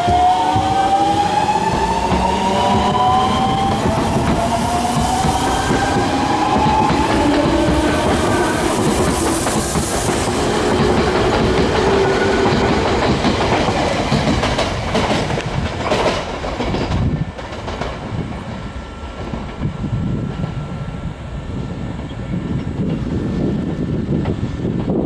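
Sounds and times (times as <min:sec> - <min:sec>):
electric train rumbling past: 0:00.0 - 0:25.0.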